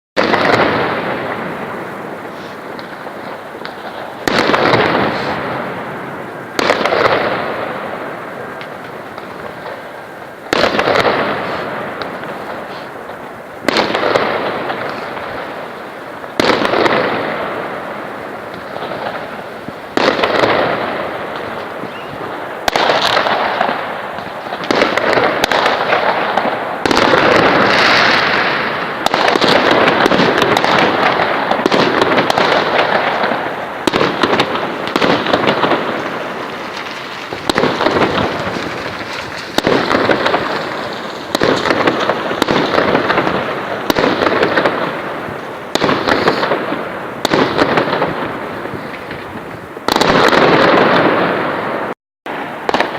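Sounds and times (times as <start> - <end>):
fireworks bursting with crackle: 0.2 - 52.9.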